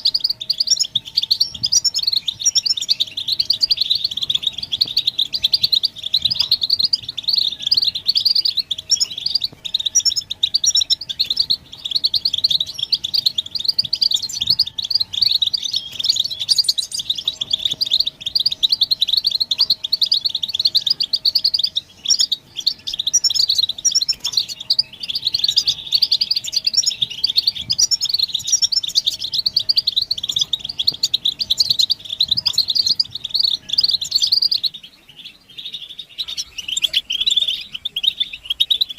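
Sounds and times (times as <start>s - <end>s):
finches twittering and singing: 0.0s - 38.9s.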